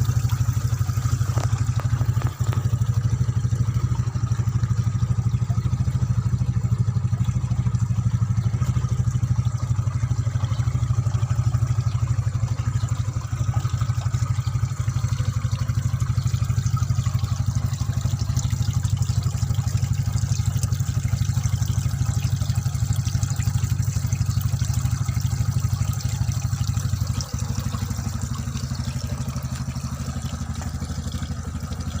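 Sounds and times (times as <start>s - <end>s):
motor pulsing hum: 0.0s - 32.0s
water trickling: 0.0s - 32.0s.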